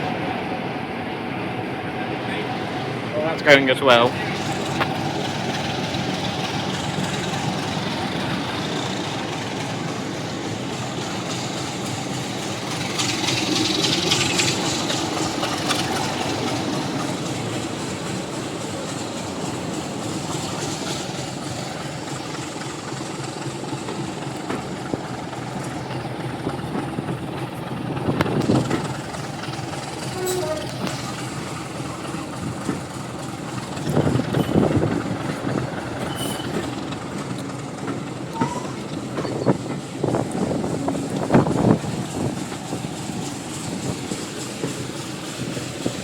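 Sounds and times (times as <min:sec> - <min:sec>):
train knocks: 0:00.0 - 0:46.0
train wheels rumbling on track: 0:00.0 - 0:46.0.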